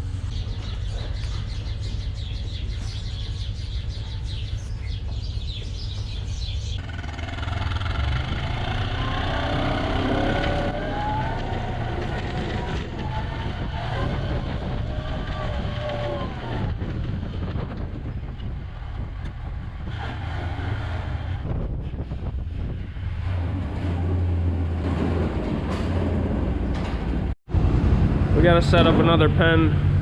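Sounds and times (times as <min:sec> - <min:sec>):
engine droning: 0:00.0 - 0:21.5, 0:22.4 - 0:30.0.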